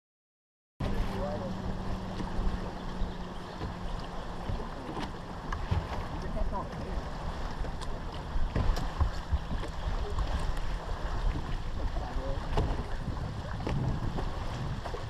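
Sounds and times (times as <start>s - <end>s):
water lapping at boat hull: 0.8s - 15.0s
wind buffeting microphone: 0.9s - 15.0s.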